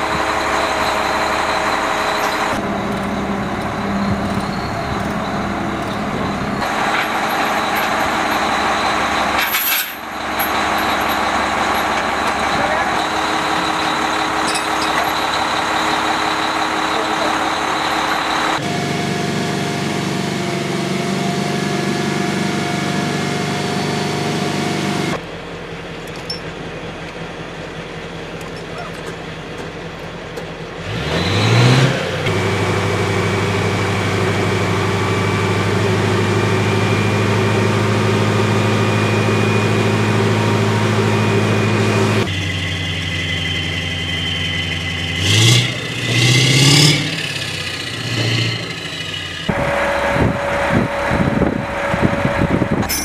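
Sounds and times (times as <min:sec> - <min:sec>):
heavy vehicle engine running: 0:00.0 - 0:53.0.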